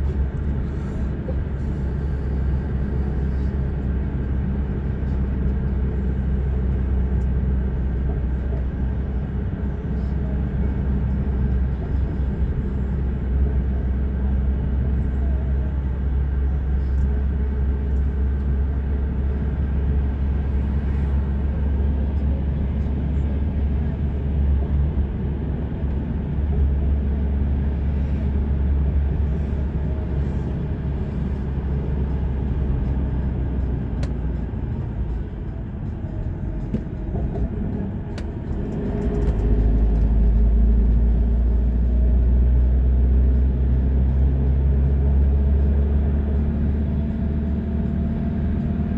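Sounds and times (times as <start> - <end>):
car road and engine rumble: 0.0 - 48.9.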